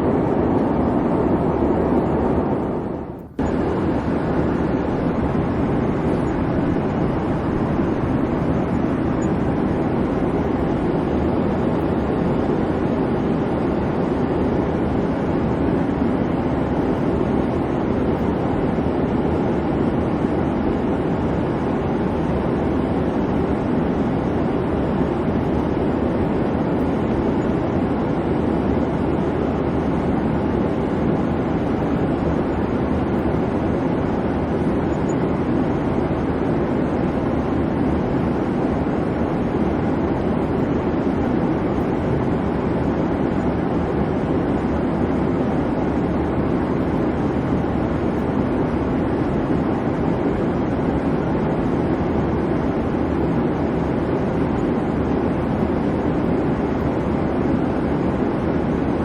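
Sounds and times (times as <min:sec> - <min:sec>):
airplane cabin engine hum: 0:00.0 - 0:59.0.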